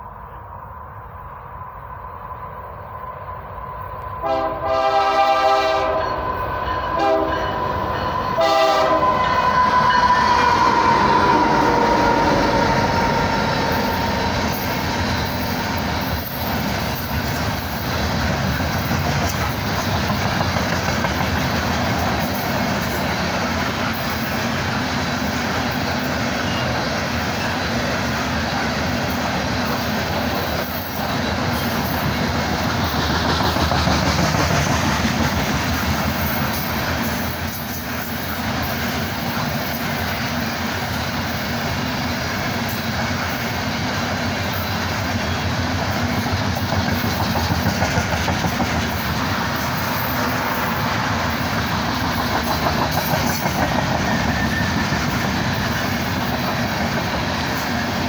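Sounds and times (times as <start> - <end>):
steel wheels running on rails: 1.8 - 58.0.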